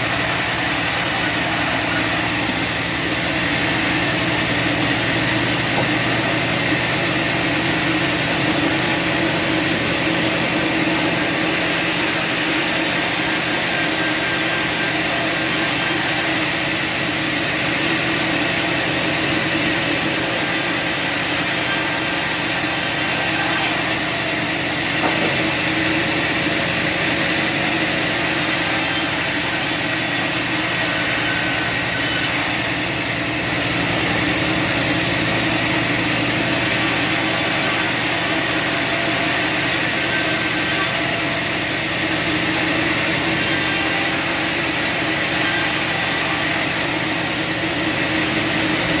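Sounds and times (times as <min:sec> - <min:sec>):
bandsaw cutting log: 0:00.0 - 0:49.0.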